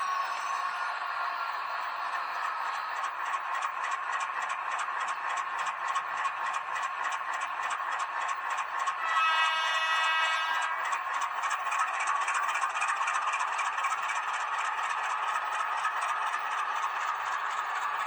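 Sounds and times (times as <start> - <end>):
model locomotive whirring: 0.0 - 18.0.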